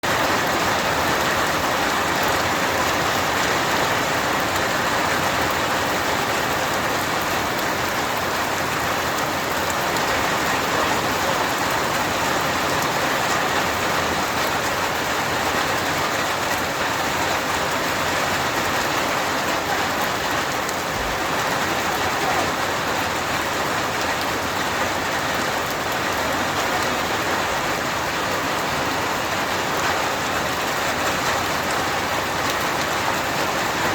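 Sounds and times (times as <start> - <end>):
dense rain falling: 0.0 - 33.9.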